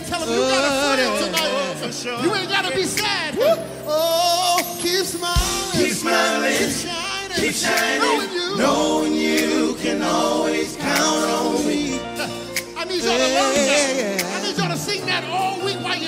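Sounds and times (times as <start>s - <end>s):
light band backing: 0.0s - 16.0s
male vocal group singing in harmony: 0.0s - 16.0s.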